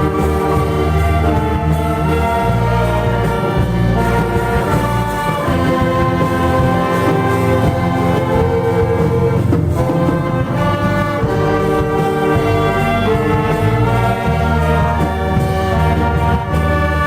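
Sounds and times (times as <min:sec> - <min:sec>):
orchestra with brass playing a hymn: 0:00.0 - 0:17.0.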